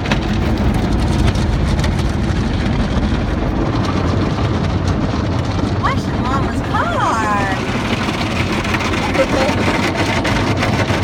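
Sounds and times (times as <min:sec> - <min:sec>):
automatic car wash running: 0:00.0 - 0:11.0.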